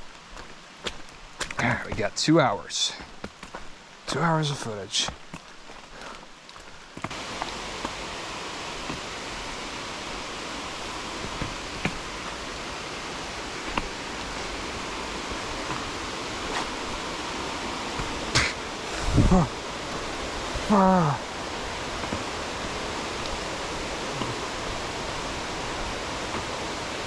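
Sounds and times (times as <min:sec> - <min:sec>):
water cascading down a stream: 0:00.0 - 0:27.0.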